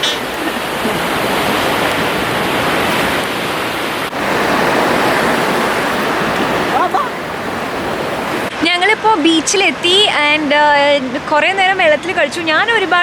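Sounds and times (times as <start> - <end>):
waves breaking on a beach: 0.0 - 13.0.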